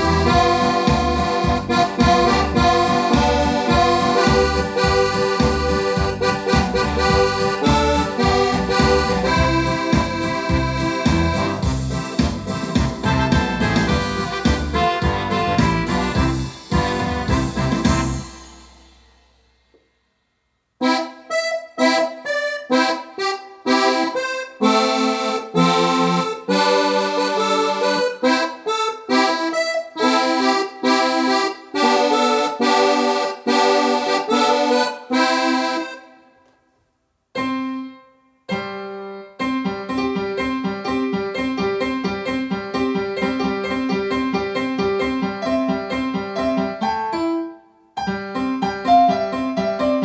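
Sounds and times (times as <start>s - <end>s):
electronic keyboard playing: 0.0s - 18.8s, 20.8s - 36.3s, 37.4s - 50.0s.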